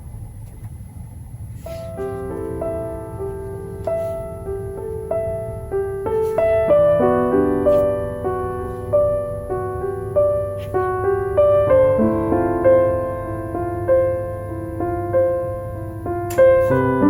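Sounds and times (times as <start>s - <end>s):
soft slow piano music: 1.6s - 17.0s.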